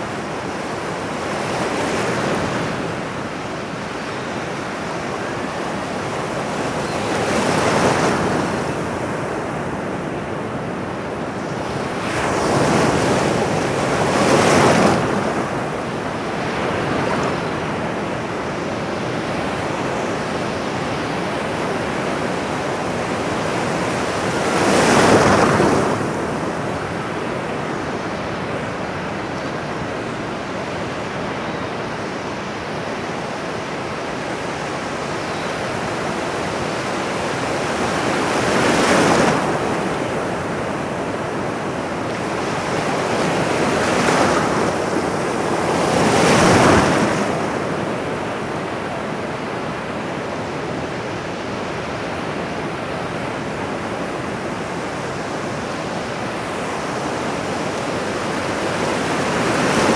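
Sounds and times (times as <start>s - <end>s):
waves breaking on shore: 0.0s - 30.7s, 31.7s - 59.9s.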